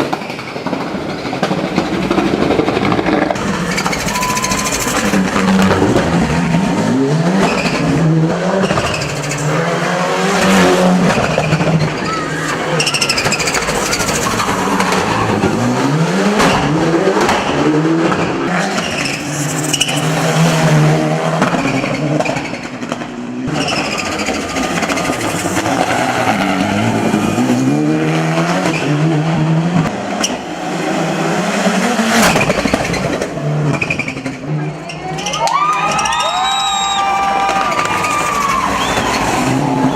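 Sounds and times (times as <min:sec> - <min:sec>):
car engine accelerating hard: 0:01.8 - 0:34.8, 0:37.4 - 0:39.9.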